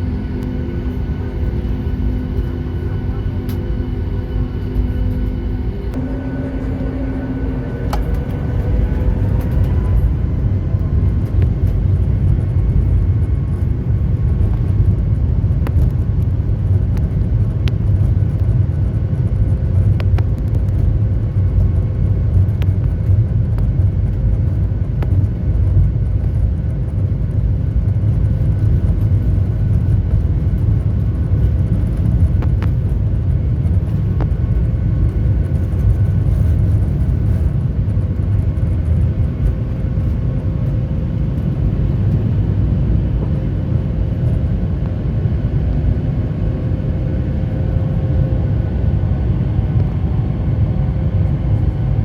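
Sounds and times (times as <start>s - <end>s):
car road and engine rumble: 0.0s - 52.0s
engine hum rising in pitch: 0.0s - 52.0s.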